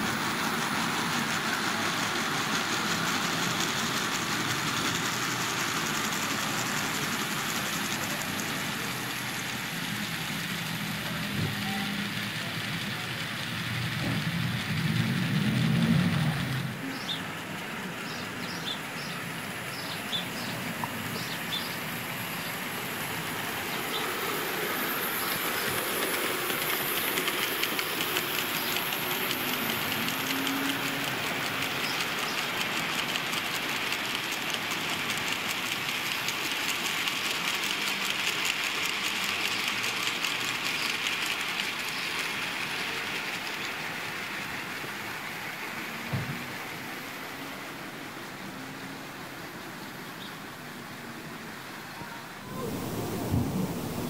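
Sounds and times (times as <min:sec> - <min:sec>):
model train rolling rumble: 0:00.0 - 0:54.0
small wheels clicking on rails: 0:00.0 - 0:54.0.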